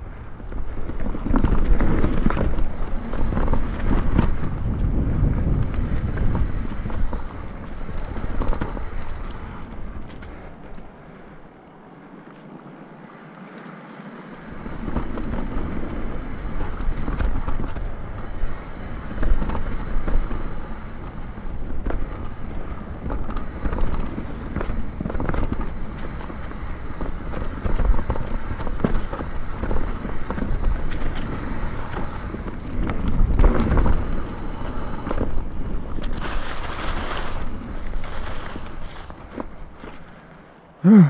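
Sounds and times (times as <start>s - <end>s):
bike knocks and rattles: 0.0s - 11.0s, 14.4s - 40.2s
wind on microphone: 0.0s - 13.4s, 14.2s - 40.1s
tyre rumble on dirt trail: 0.0s - 41.0s.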